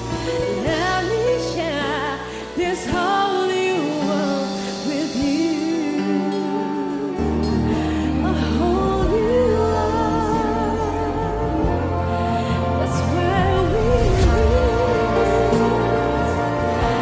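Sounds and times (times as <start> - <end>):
pop song with solo singer: 0.0 - 17.0.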